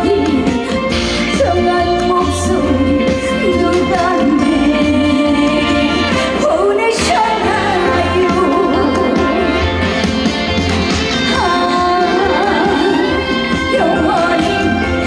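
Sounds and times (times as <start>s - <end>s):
amplified instrumental backing: 0.0s - 15.0s
woman singing live: 0.0s - 15.0s.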